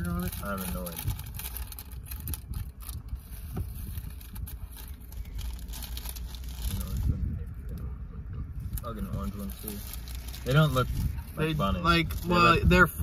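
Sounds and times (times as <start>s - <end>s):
plastic bag rustling and crinkling: 0.0s - 7.3s, 9.0s - 12.6s
steady low rumble: 0.0s - 13.0s.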